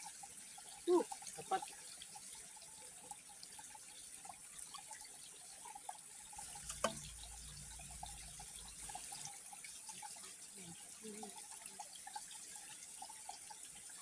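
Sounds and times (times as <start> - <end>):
shallow water trickling: 0.0 - 14.0
water drips: 0.0 - 14.0.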